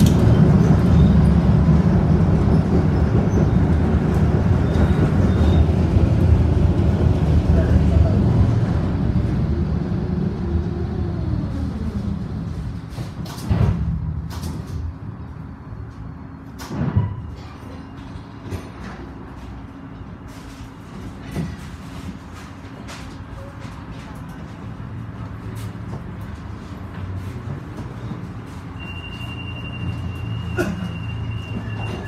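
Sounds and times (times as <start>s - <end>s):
tram humming: 0.0s - 32.0s
tram wheels rumbling: 0.0s - 32.0s.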